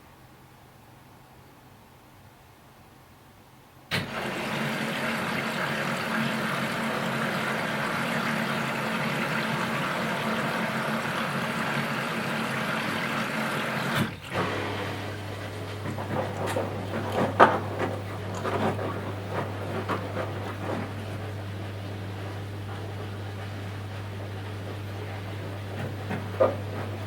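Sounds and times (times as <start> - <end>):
water rushing into washing machine: 3.9 - 27.0.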